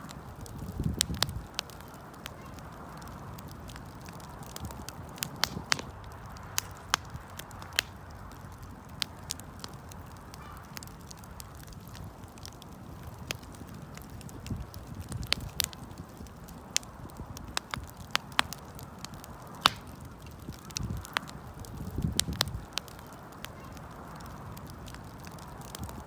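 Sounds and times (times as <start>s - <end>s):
campfire pops and snaps: 0.0s - 26.0s
low rushing of flames: 0.0s - 26.0s.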